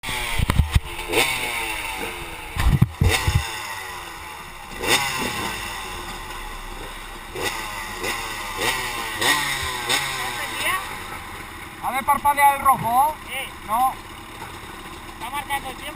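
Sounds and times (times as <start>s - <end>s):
engine revving: 0.0s - 15.9s.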